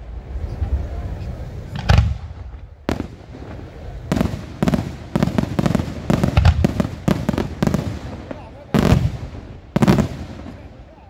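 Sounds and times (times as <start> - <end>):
firework shells bursting: 1.7 - 10.7.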